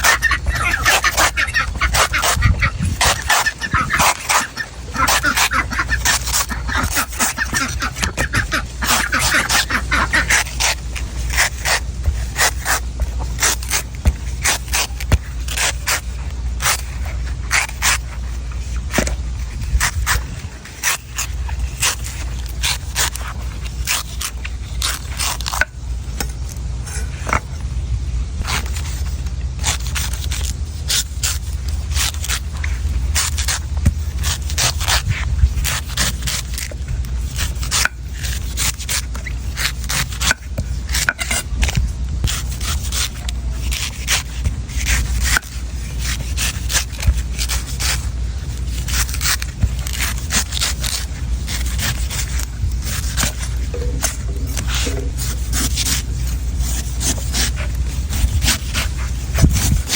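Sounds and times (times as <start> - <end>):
knife scraping coconut: 0.0 - 27.5, 28.4 - 59.9
low rumble: 0.0 - 38.5, 40.5 - 59.9.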